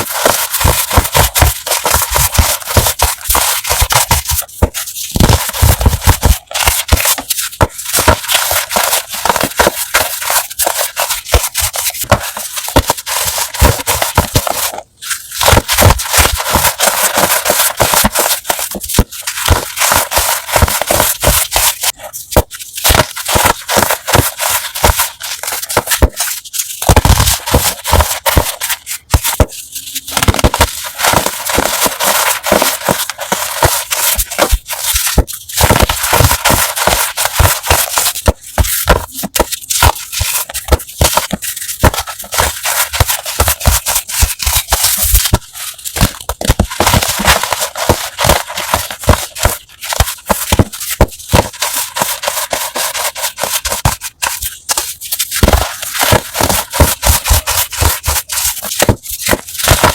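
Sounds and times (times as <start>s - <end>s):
chalk being crushed: 0.0s - 59.9s.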